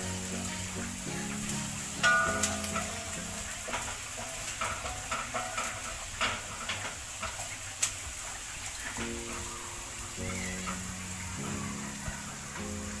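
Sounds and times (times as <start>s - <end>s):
chips sizzling in hot oil: 0.0s - 13.0s.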